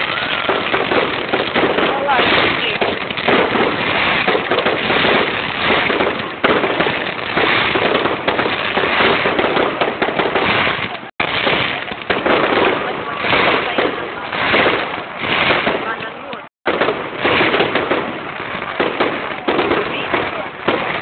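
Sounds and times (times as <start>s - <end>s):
firecrackers crackling: 0.0s - 21.0s.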